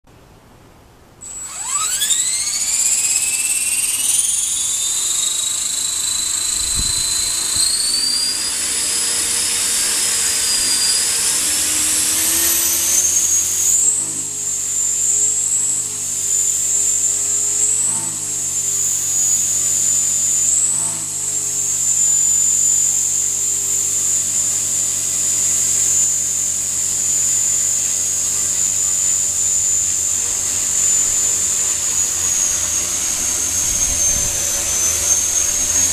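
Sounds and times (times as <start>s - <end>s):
helicopter motor whine: 1.2s - 35.9s.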